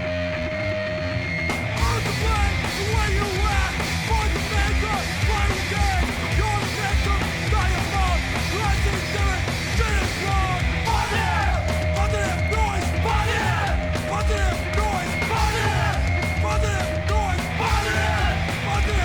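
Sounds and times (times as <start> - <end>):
distorted guitars: 0.0 - 19.0
pounding drums: 1.6 - 19.0
shouted vocals: 1.8 - 19.0.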